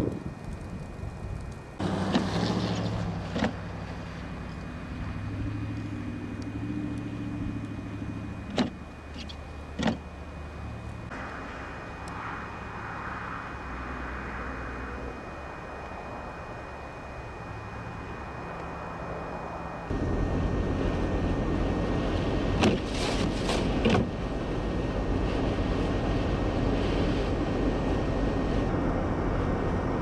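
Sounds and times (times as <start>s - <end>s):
truck engine drone: 0.0s - 30.0s.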